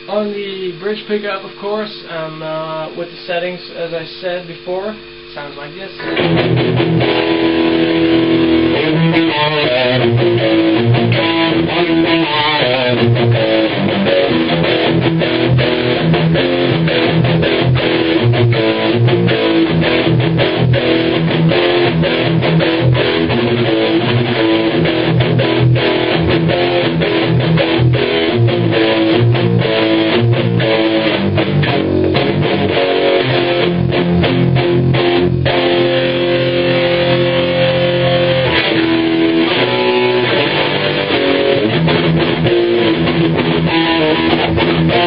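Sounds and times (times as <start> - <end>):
distorted electric guitar: 0.0 - 45.0.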